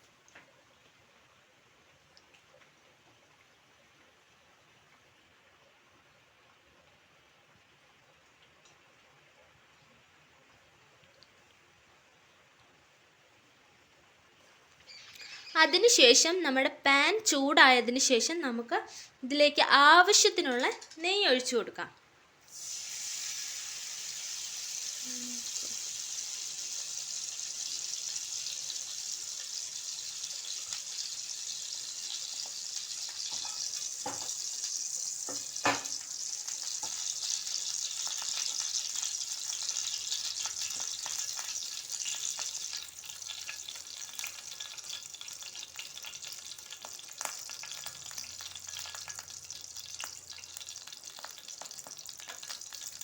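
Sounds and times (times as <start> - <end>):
ghee sizzling in a pan: 0.0 - 21.8, 22.4 - 53.0.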